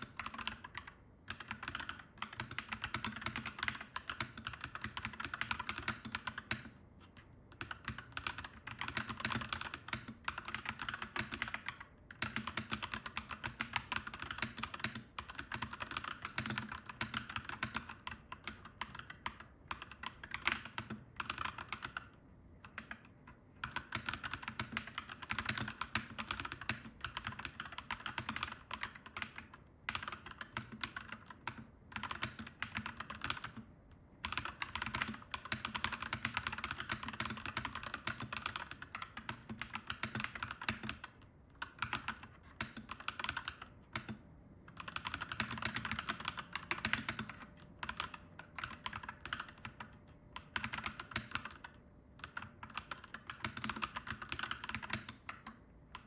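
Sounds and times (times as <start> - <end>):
typing on mechanical keyboard: 0.0 - 56.0.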